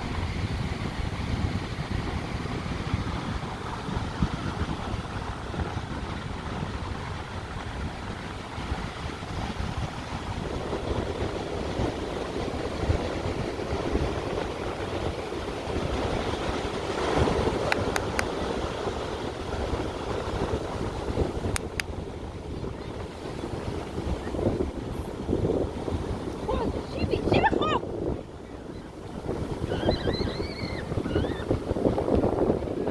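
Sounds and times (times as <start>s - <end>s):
sea surf rushing: 0.0s - 32.9s
wind buffeting microphone: 0.0s - 32.9s.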